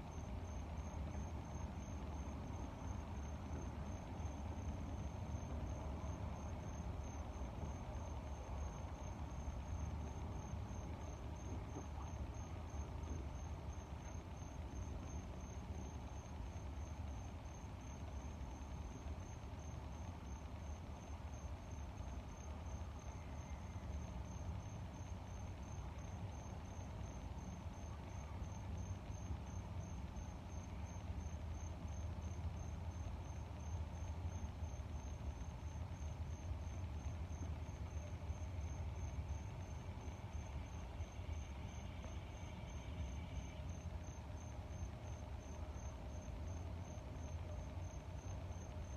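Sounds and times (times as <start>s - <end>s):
cricket chirping: 0.0s - 48.9s.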